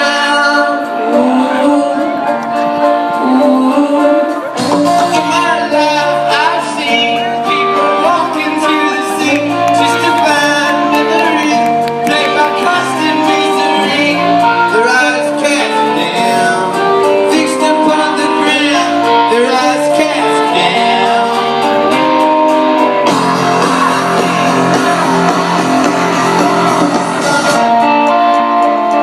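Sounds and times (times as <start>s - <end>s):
guitars: 0.0s - 29.0s
live rock band playing: 0.0s - 29.0s
person singing: 0.0s - 29.0s.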